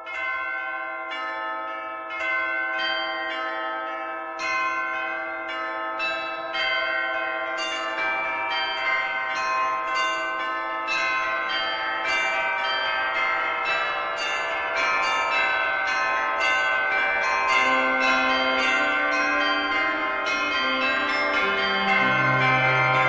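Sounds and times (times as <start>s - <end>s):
church bells ringing: 0.0s - 23.0s.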